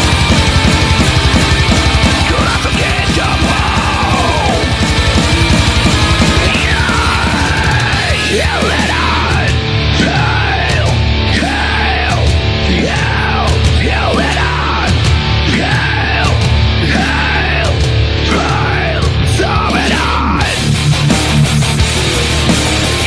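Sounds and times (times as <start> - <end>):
bass and drums: 0.0 - 23.0
distorted electric guitar: 0.0 - 23.0.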